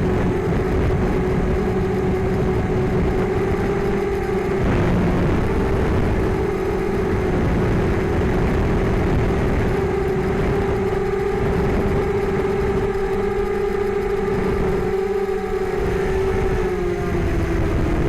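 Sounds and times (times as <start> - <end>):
drone motors buzzing: 0.0 - 18.0.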